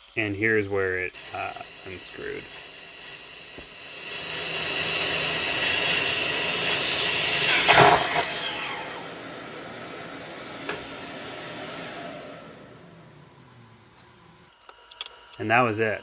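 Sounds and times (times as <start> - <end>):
track saw cutting wood: 0.7 - 16.0.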